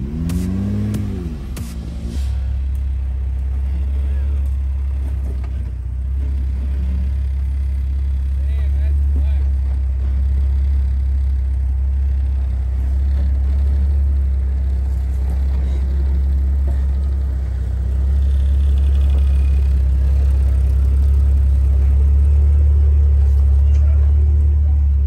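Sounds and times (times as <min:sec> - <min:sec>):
engine rumbling at low speed: 0:00.0 - 0:25.0.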